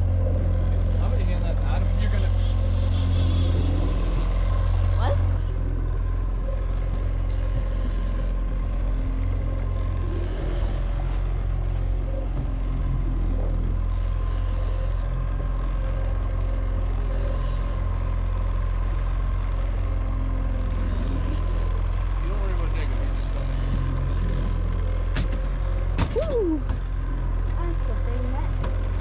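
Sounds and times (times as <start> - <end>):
outboard motor rumbling: 0.0 - 29.0.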